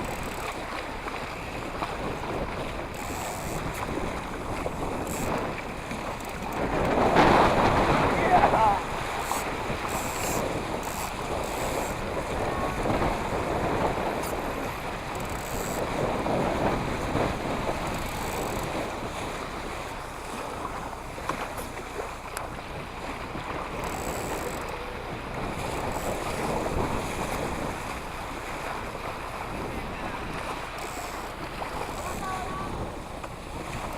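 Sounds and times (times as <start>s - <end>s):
water lapping against boat: 0.0s - 33.9s
wind buffeting microphone: 0.0s - 33.9s.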